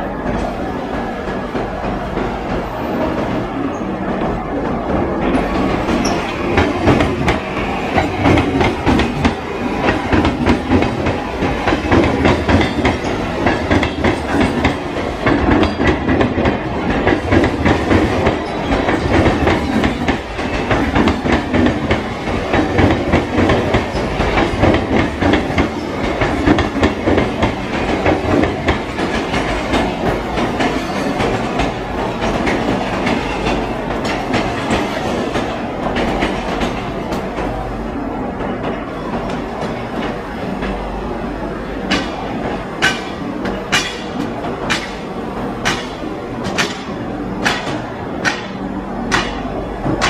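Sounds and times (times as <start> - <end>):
train rumble: 0.0 - 50.0
train wheels clattering: 0.2 - 37.6, 41.8 - 50.0.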